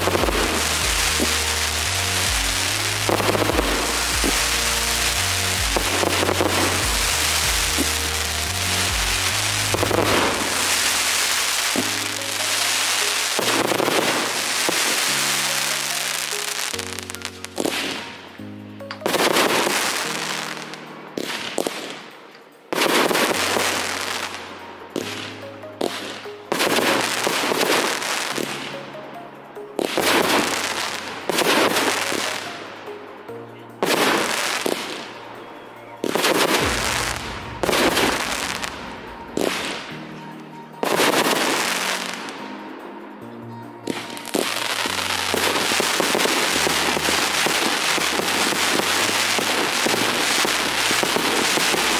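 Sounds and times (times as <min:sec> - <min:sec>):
fireworks banging and crackling: 0:00.0 - 0:42.8, 0:43.8 - 0:51.9
music: 0:00.0 - 0:51.9.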